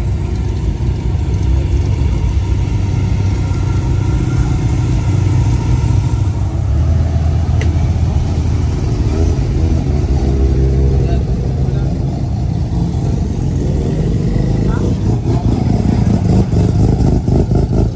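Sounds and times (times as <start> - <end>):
car engine running low revs: 0.0 - 17.9.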